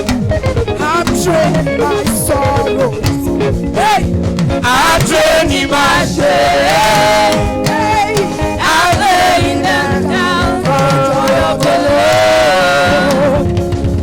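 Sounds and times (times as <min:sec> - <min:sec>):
band playing: 0:00.0 - 0:14.0
voices singing gospel: 0:00.0 - 0:14.0.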